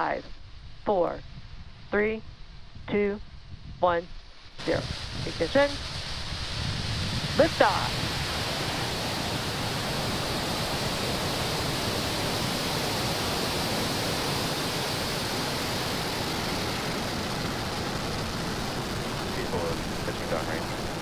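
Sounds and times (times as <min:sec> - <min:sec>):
rocket engines rumbling: 0:01.0 - 0:21.0.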